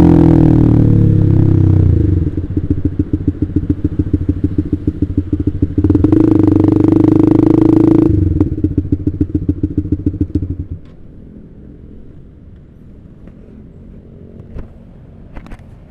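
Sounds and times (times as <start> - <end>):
motorcycle engine idling and revving: 0.0 - 15.9.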